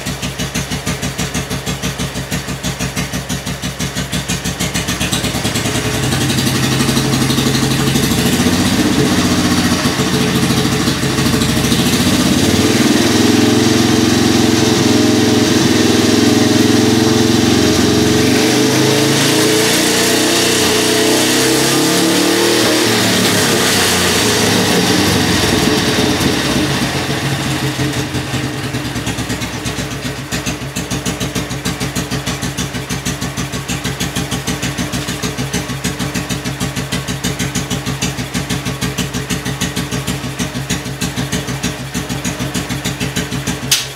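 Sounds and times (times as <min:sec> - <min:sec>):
motorcycle engine revving and idling: 0:00.0 - 0:43.9.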